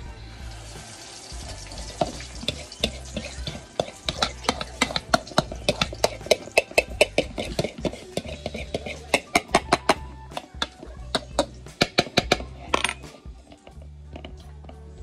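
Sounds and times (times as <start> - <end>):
stirring and scraping in plastic bowl: 1.8 - 15.0.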